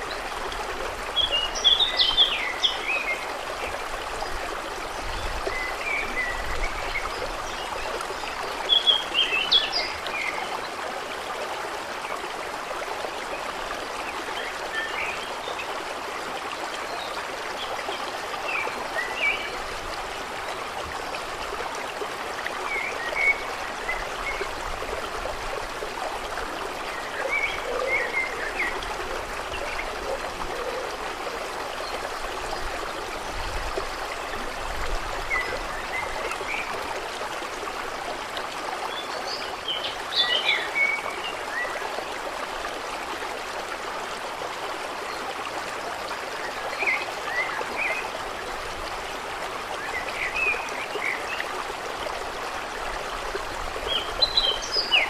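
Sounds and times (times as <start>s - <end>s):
water flowing and trickling: 0.0s - 55.0s.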